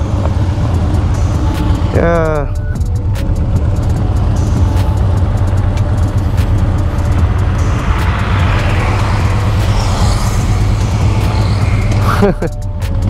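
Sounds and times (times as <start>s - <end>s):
wind rushing: 0.0s - 12.4s
motorcycle engine running: 0.0s - 13.0s.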